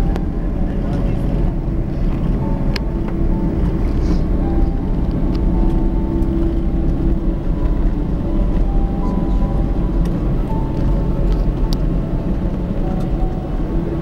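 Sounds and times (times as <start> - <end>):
faint engine whine: 0.0 - 14.0
jet engine rumble: 0.0 - 14.0.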